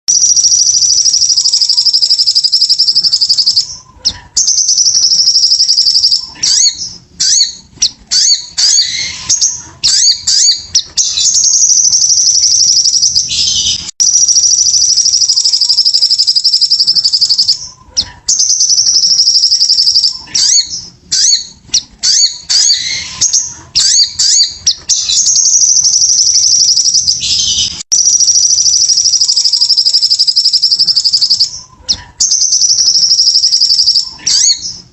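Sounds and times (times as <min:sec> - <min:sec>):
bird singing high-pitched trills: 0:00.1 - 0:03.8, 0:04.4 - 0:34.8.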